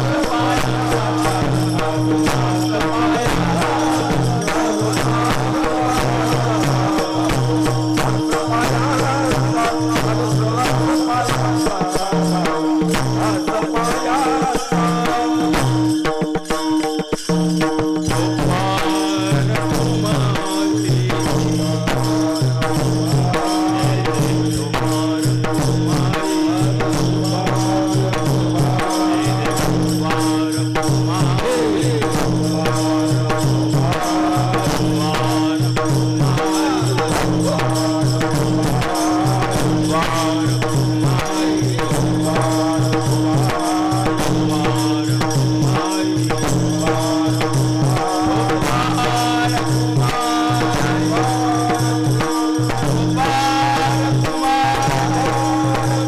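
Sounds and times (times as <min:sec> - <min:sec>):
person singing wavering melody: 0:00.0 - 0:16.0, 0:18.1 - 0:56.0
jingling percussion: 0:00.0 - 0:56.0.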